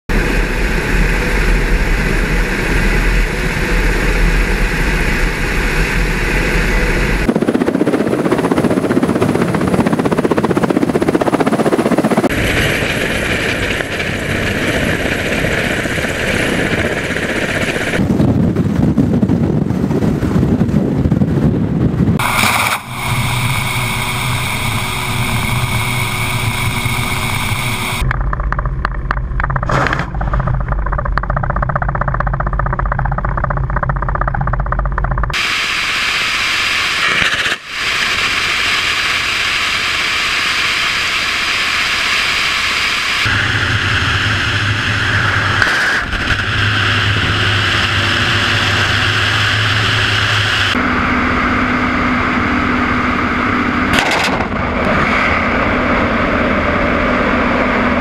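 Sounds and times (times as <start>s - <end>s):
turbine engine whine: 0.0s - 58.0s
helicopter rotors thrumming: 0.1s - 58.0s.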